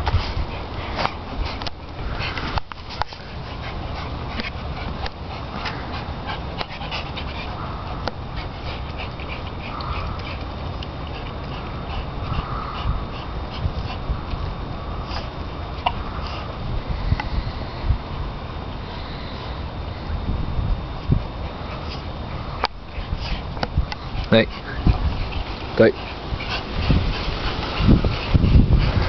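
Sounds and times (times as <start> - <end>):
dogs panting: 0.0 - 18.2, 20.9 - 29.0.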